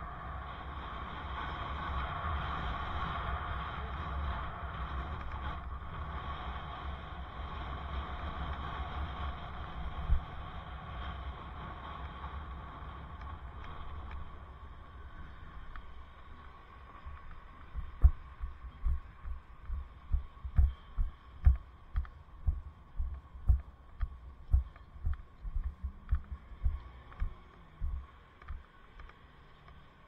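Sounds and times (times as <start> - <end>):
riding rumble: 0.0 - 30.0.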